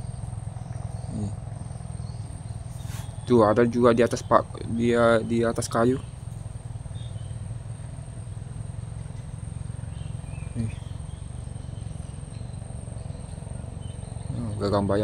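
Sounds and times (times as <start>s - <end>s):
faint bird chirps: 0.0s - 15.0s
thin steady high whine: 0.0s - 15.0s.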